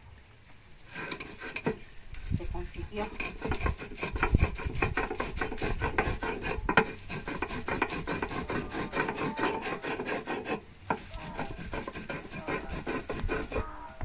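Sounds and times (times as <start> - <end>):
stone rasping on grinding stone: 0.9 - 1.8, 2.9 - 13.7.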